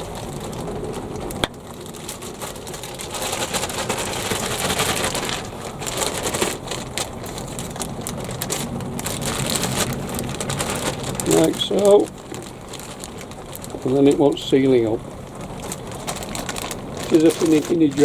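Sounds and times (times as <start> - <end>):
plastic bag crinkling: 0.0 - 18.0
soil rustling: 0.0 - 18.0.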